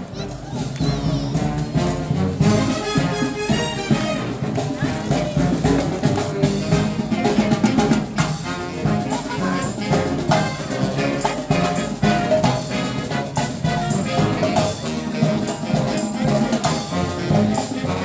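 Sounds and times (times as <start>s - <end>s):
marching brass band: 0.0s - 18.0s.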